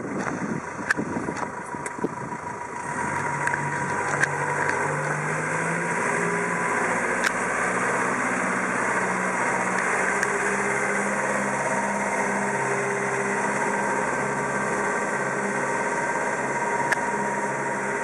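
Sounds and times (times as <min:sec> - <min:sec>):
diesel engine running at low revs: 0:00.0 - 0:18.0.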